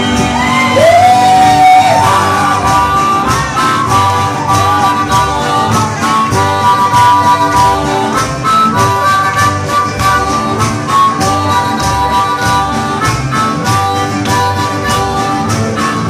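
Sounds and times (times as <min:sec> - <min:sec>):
bass: 0:00.0 - 0:16.0
drum beat: 0:00.0 - 0:16.0
harmonica bending notes: 0:00.0 - 0:16.0.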